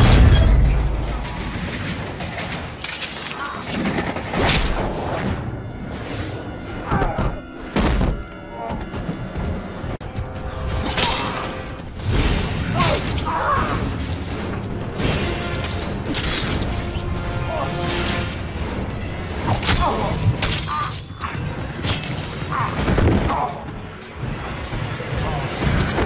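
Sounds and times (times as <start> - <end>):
dramatic score music: 0.0 - 26.0.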